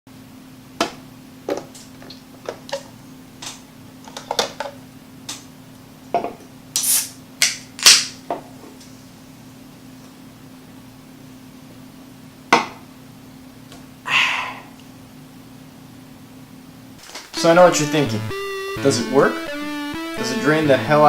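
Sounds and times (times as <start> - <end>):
faint steady hum: 0.1 - 21.0.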